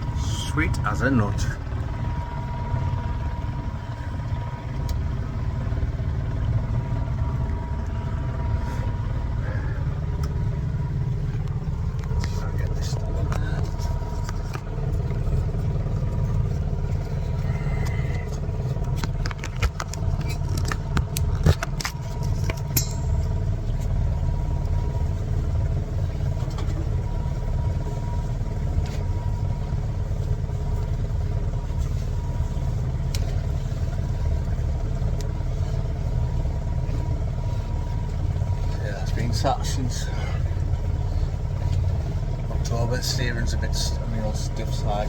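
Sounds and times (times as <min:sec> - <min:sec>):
outboard motor running: 0:00.0 - 0:45.0.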